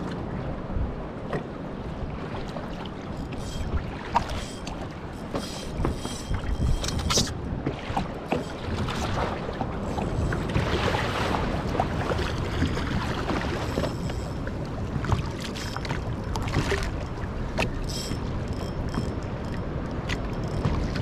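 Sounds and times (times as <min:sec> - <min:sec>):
sea water splashing against kayak hull: 0:01.2 - 0:18.4
wind on microphone: 0:03.2 - 0:21.0.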